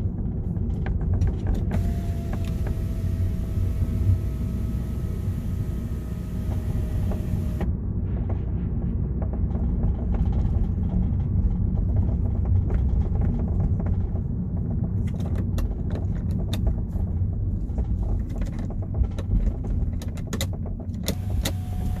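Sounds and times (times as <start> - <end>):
car road rumble: 0.0 - 22.0.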